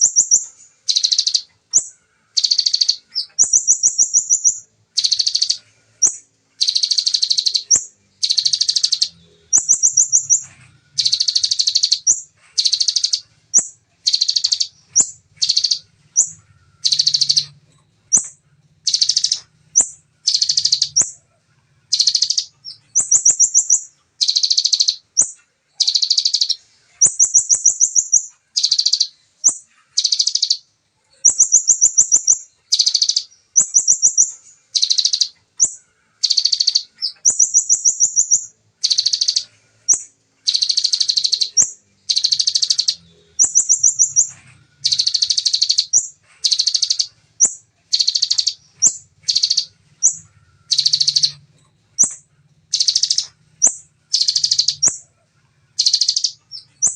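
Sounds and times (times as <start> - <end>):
bird singing fast trilled song: 0.0 - 56.9.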